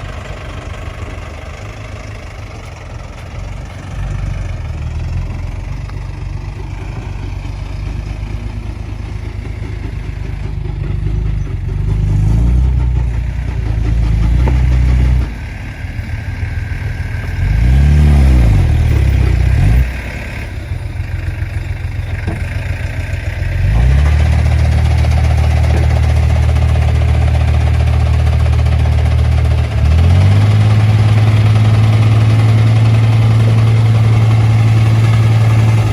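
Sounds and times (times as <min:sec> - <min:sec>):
tractor engine revving: 0:00.0 - 0:35.9.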